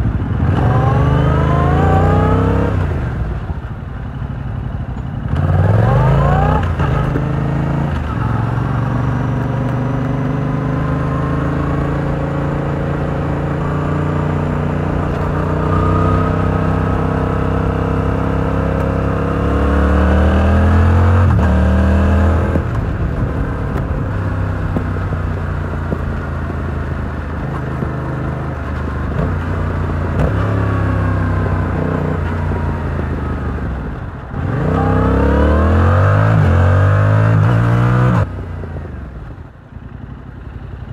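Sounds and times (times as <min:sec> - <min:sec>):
motorcycle engine revving: 0:00.0 - 0:03.8, 0:04.5 - 0:39.2.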